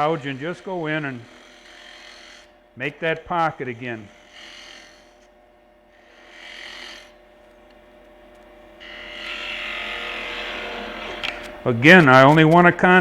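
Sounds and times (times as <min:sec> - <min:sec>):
gouge cutting spinning wood: 0:00.0 - 0:13.0
lathe motor hum: 0:00.0 - 0:13.0.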